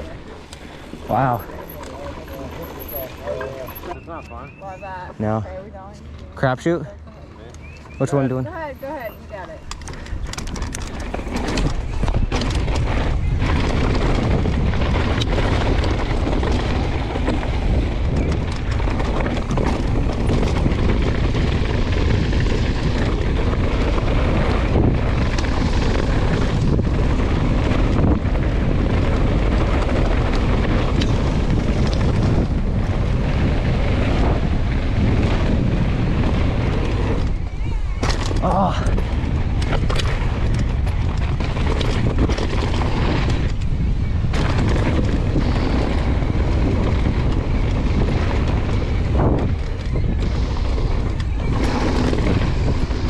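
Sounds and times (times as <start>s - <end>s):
bike tyres rumbling on dirt: 0.0s - 6.6s, 7.6s - 53.0s
bike rattling over bumps: 0.0s - 6.8s, 7.6s - 53.0s
wind on microphone: 7.9s - 53.0s.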